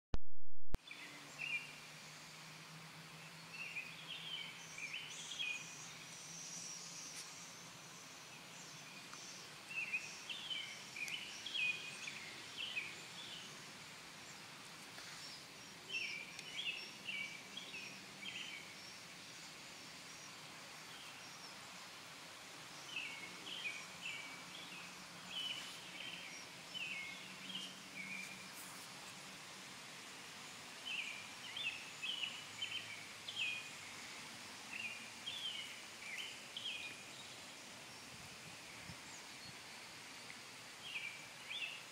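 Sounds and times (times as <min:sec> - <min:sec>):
songbird singing: 0:00.8 - 0:41.9.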